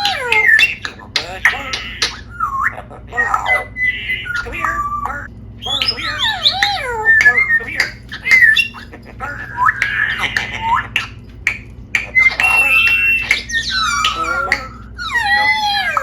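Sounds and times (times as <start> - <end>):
parrot squawking and whistling: 0.0 - 16.0.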